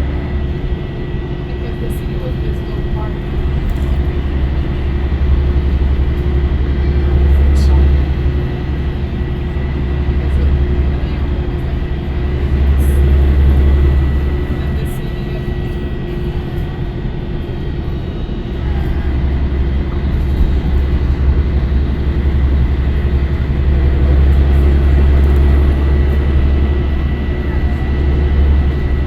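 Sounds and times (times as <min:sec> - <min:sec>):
diesel bus engine droning: 0:00.0 - 0:29.0.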